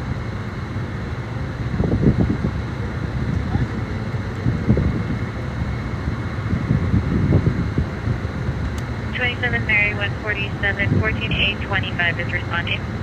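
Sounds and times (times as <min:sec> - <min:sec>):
low street rumble: 0:00.0 - 0:13.0
wind buffeting microphone: 0:01.6 - 0:13.0.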